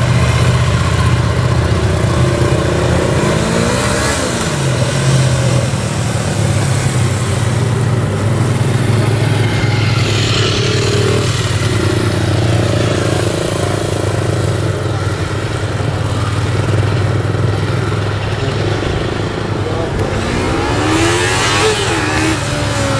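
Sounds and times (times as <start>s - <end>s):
motorcycle engine at low revs: 0.0s - 22.9s.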